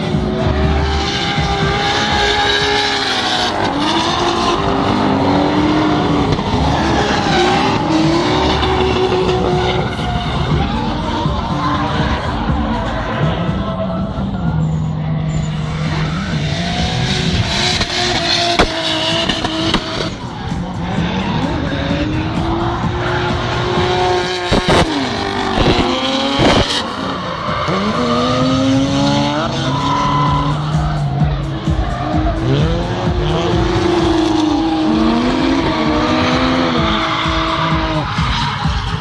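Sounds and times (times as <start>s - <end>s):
car engines revving: 0.0s - 39.0s
tyres squealing and skidding: 0.0s - 39.0s.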